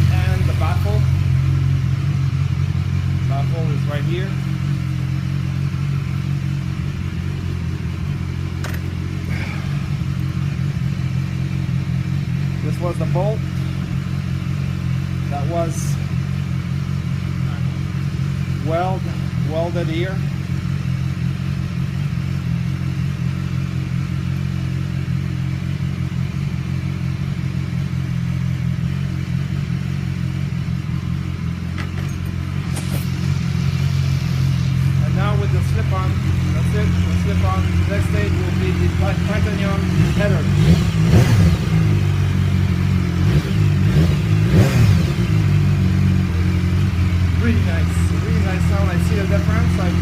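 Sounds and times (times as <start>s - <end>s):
motorcycle engine idling: 0.0s - 50.0s.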